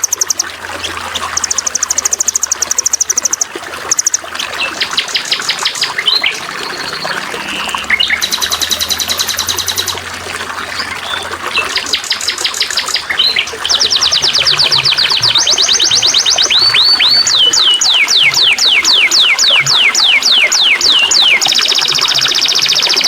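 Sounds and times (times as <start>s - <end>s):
bird chirps: 0.0s - 10.0s, 10.8s - 23.0s
songbirds trilling: 0.0s - 23.0s
trickling water: 0.0s - 23.0s.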